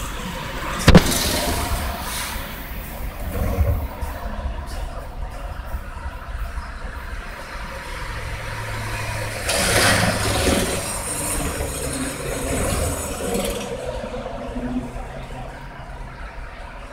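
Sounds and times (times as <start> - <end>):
vehicle engine humming: 0.0 - 16.9
vehicle passing rush: 0.0 - 16.9.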